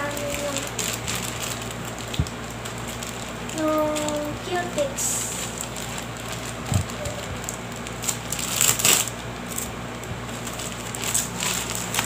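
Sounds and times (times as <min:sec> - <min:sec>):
packaging rustle: 0:00.0 - 0:12.0.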